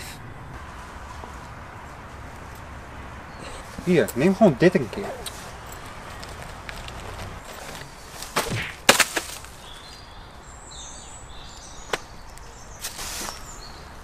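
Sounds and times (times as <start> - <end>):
dry leaves rustling: 0.5 - 10.2, 11.6 - 14.0.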